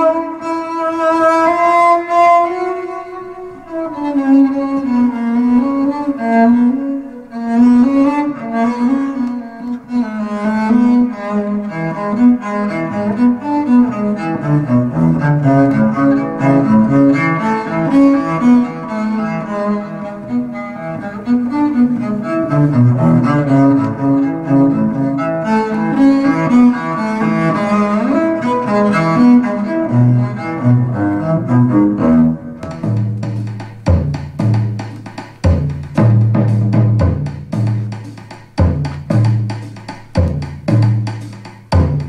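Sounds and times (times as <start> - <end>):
bowed cello playing: 0.0 - 42.0.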